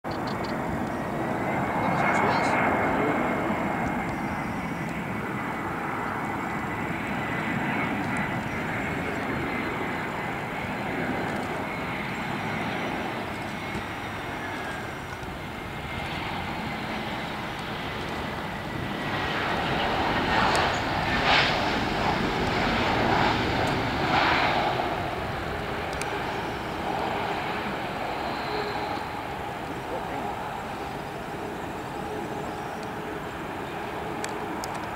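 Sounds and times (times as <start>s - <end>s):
jet engines rushing and whining: 0.1s - 34.9s
jet reverse thrust roar: 0.1s - 34.9s.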